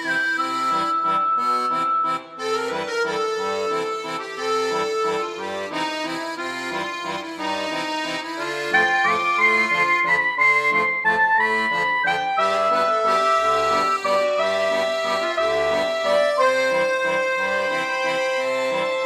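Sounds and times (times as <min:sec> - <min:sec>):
accordion music with bass line: 0:00.0 - 0:19.0.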